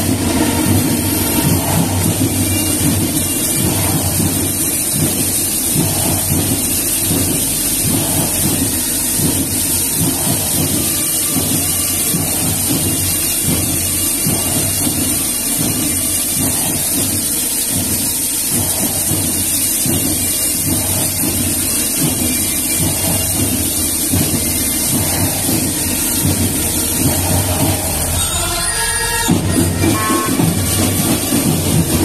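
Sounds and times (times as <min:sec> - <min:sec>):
marching band drums: 0:00.0 - 0:32.0.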